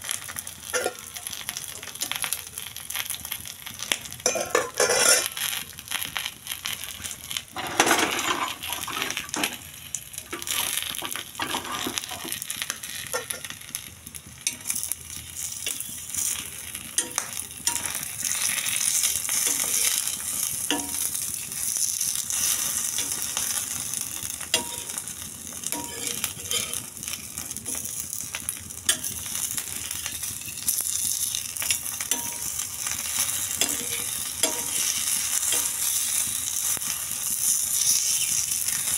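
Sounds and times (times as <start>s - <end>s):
egg sizzling on a griddle: 0.0s - 38.9s
fat crackling and popping: 0.0s - 38.9s.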